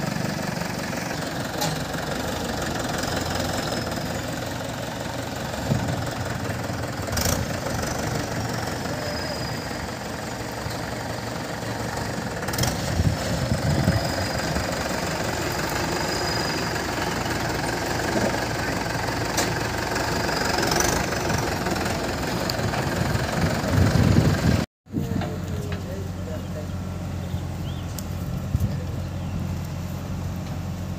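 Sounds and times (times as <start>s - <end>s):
tractor diesel engine idling: 0.0s - 30.9s.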